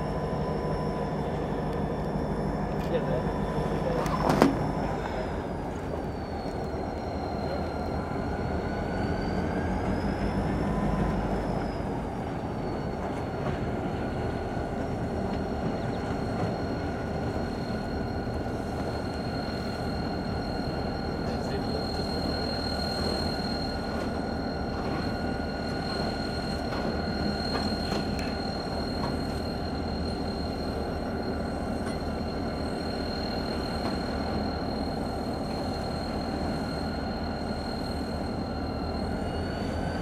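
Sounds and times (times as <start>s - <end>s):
diesel locomotive engine rumble: 0.0s - 40.0s.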